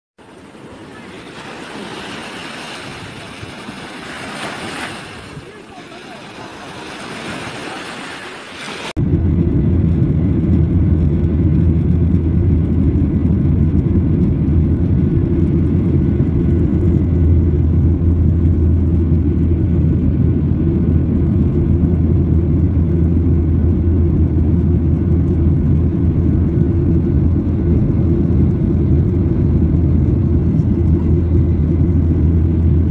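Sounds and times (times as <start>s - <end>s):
airliner cabin rumble: 0.2s - 32.9s.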